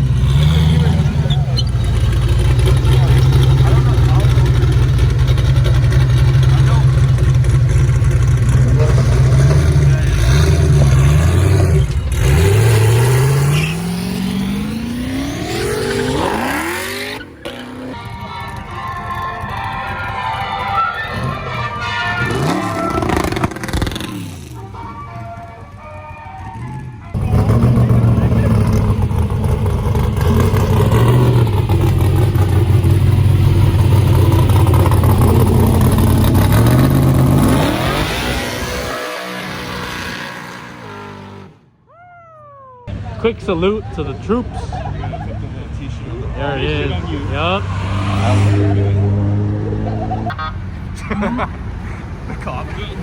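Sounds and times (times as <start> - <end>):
car engine accelerating: 0.0 - 41.7, 42.9 - 53.0.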